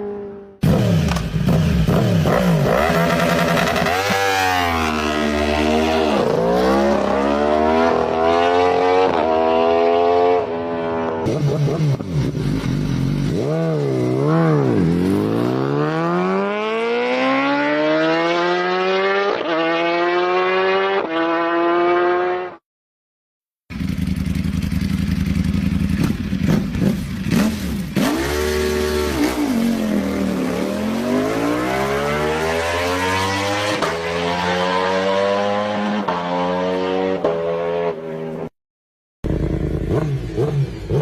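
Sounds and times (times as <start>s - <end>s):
motorcycle engine revving: 0.0s - 22.6s, 23.7s - 38.5s, 39.2s - 41.0s.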